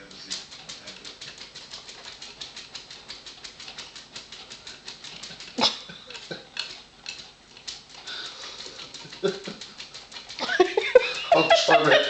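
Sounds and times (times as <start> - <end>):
dog scratching while digging: 0.0 - 10.5.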